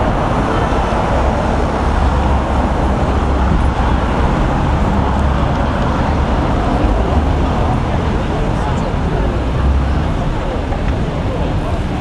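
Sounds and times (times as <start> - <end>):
city street traffic noise: 0.0 - 12.0.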